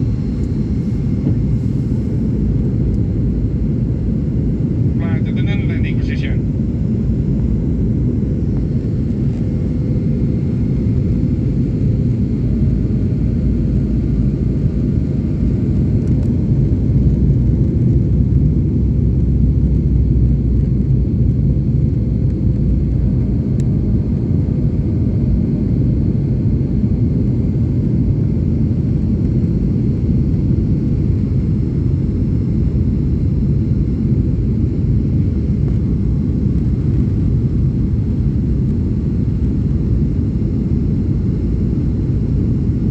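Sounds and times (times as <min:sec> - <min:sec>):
airliner engine rumble: 0:00.0 - 0:42.9.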